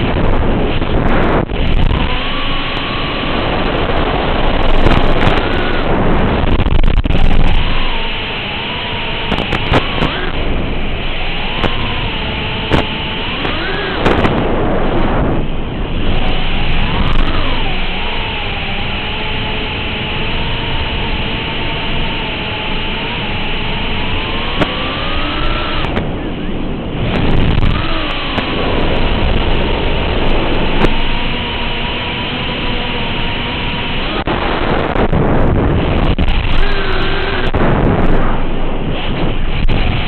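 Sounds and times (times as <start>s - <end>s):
radio static: 0.0s - 18.2s, 24.4s - 40.0s
wind rush: 0.0s - 19.1s, 24.5s - 40.0s
drone motor whine: 0.0s - 40.0s.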